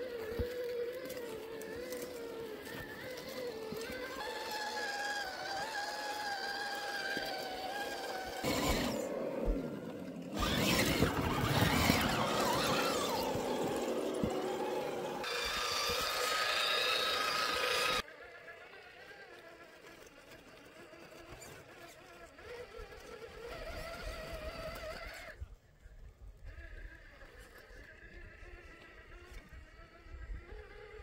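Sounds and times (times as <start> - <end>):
toy truck electric motors whining: 0.0 - 31.0.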